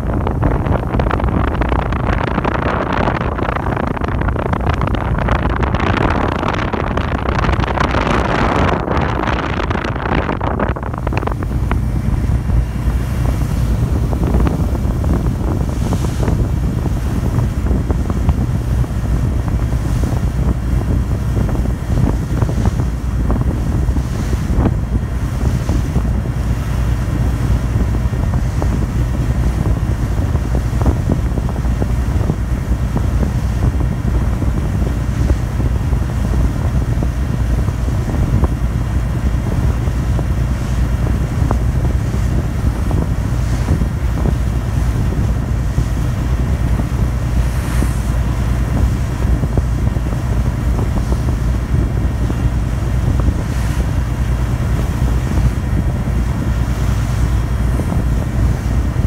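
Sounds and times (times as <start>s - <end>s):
water rushing past hull: 0.0s - 59.0s
wind buffeting microphone: 0.0s - 59.0s.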